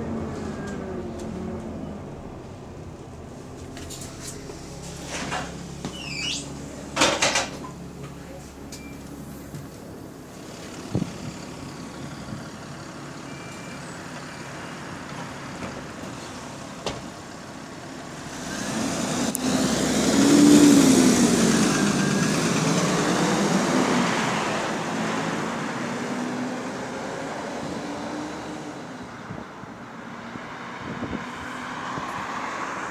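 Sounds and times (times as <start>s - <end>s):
bus engine pulling away: 0.0s - 32.9s.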